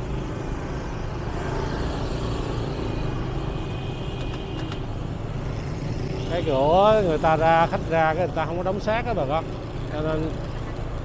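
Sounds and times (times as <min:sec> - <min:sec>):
traffic engine hum and road noise: 0:00.0 - 0:11.0.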